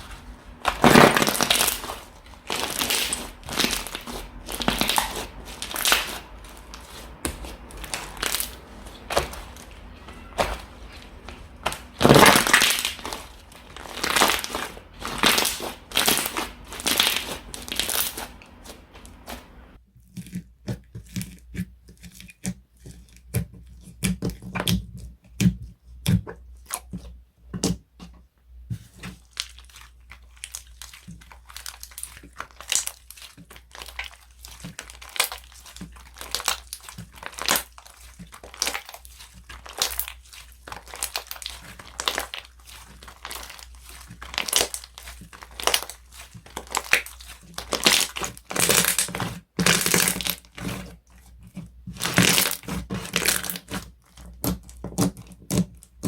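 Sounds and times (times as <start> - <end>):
slime crackling and popping: 0.0 - 20.3, 29.2 - 56.0.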